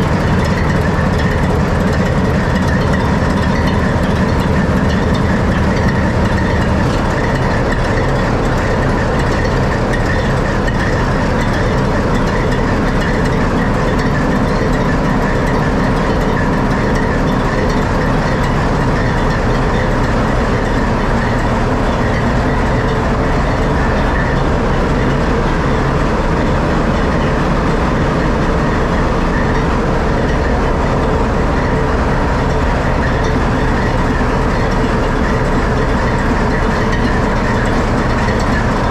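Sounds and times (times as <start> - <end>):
diesel locomotive engine idling: 0.0 - 38.9
machinery whine and clatter: 0.0 - 38.9.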